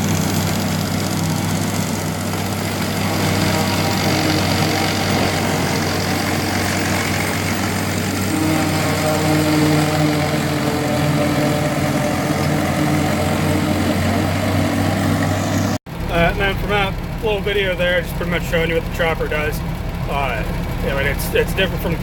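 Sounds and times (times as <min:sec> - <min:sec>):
heavy machinery drone: 0:00.0 - 0:22.0.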